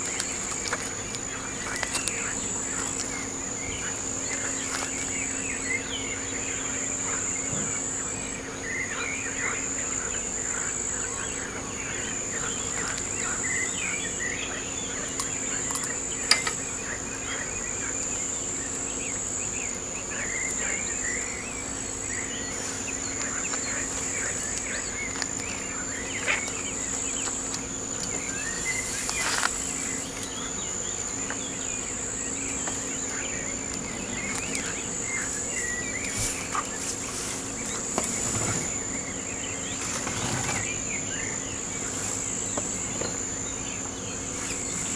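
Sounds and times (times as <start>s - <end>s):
bird chirps: 0.0s - 44.9s
insects trilling: 0.0s - 44.9s.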